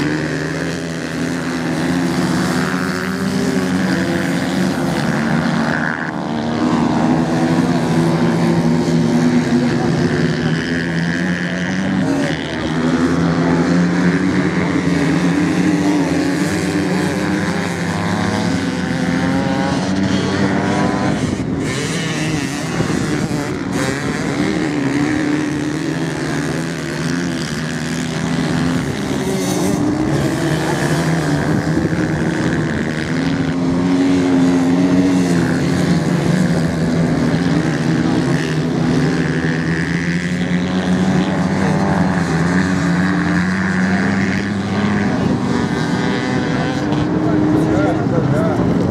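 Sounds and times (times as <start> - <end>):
off-road motorcycle engines racing: 0.0 - 48.9.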